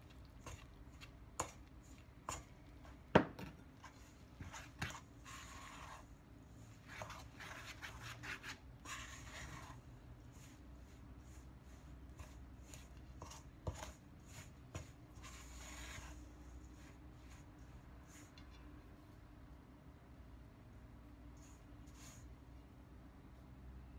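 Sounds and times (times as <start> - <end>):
hand and spoon mixing dough in bowl: 0.0 - 23.6.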